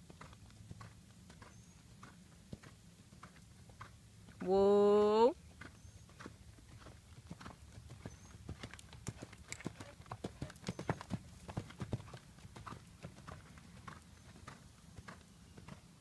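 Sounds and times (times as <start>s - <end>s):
horse hoofbeats on sand: 0.0s - 16.0s.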